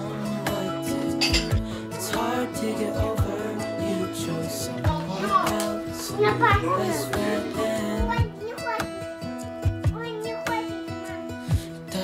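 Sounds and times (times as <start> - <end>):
song with guitar and beat: 0.0 - 12.0.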